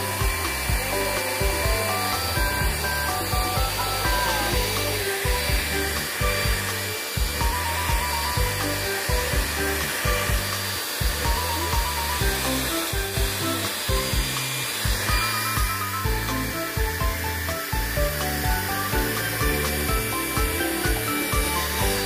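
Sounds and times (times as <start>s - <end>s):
background music with beat: 0.0s - 22.0s
hair dryer blowing: 0.0s - 22.0s.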